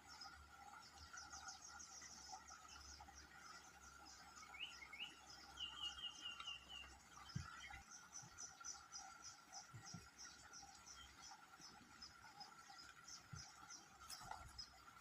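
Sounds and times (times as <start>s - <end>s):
bird chirping: 0.1s - 14.8s.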